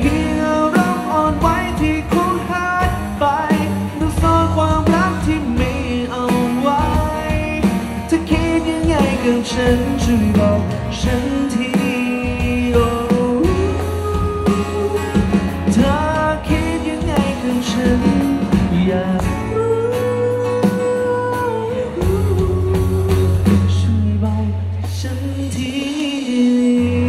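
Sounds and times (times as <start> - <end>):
person singing: 0.0 - 27.0
strummed acoustic guitar: 0.0 - 27.0.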